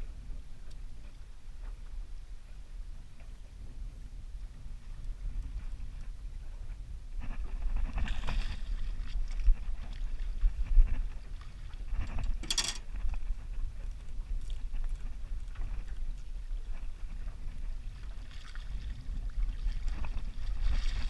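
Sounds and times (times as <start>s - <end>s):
water moving around boat: 0.0s - 21.0s
wind rumbling on microphone: 0.0s - 21.0s.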